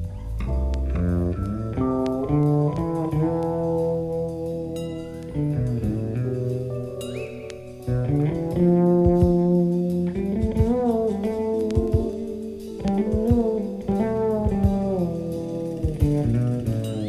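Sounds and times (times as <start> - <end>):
jazz band playing: 0.5 - 17.0.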